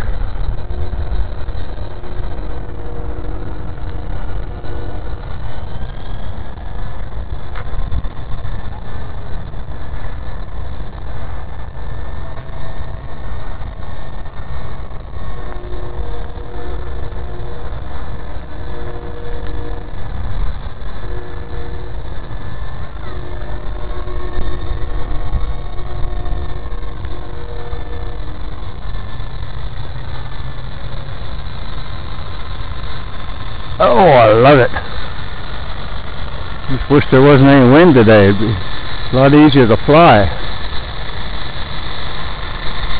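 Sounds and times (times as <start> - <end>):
rc helicopter motor whining: 0.0 - 42.9
wind rumble on microphone: 0.0 - 42.9.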